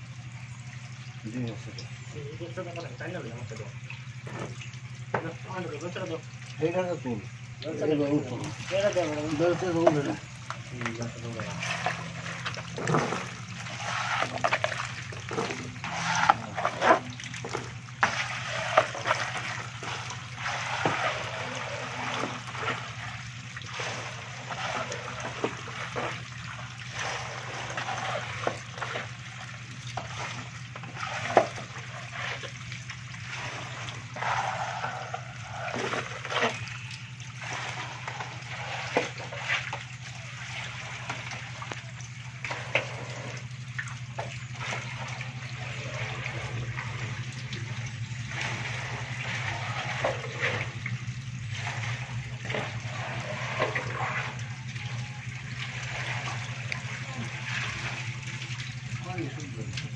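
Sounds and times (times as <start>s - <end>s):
fish splashing in shallow water: 0.0s - 59.9s
steady low hum: 0.0s - 59.9s
water trickling: 0.0s - 59.9s.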